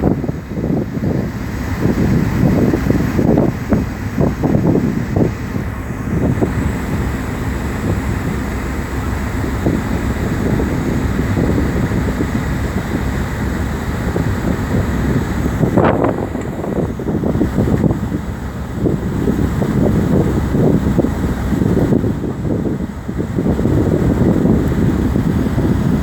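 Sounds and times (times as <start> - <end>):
boat low rumble: 0.0 - 26.0
wind buffeting microphone: 0.0 - 26.0.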